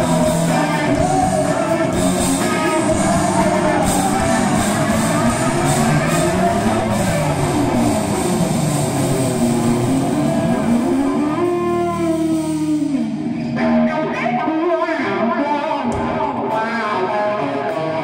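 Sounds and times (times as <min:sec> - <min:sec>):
electric guitar solo: 0:00.0 - 0:18.0.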